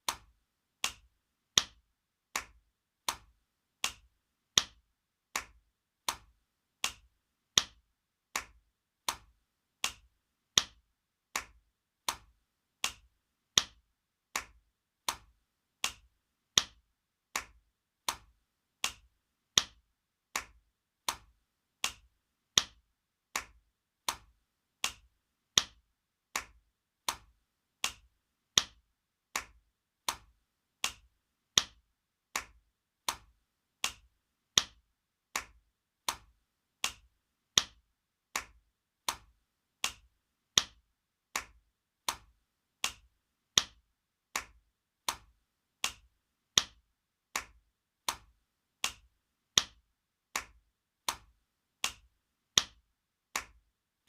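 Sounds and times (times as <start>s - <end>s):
hand slapping skin: 0.0s - 53.6s.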